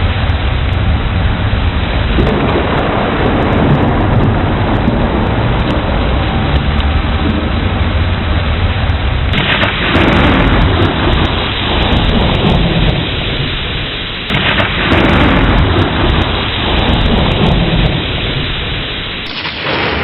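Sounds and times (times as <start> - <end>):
heavy rain: 0.0 - 20.0
rolling thunder: 0.0 - 20.0.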